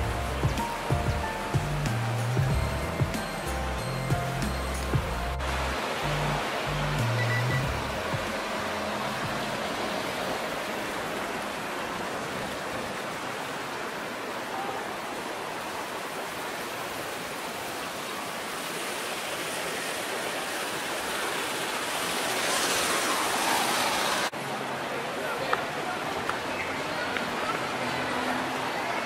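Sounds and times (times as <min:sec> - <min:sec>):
city street ambience hiss: 0:00.0 - 0:29.0.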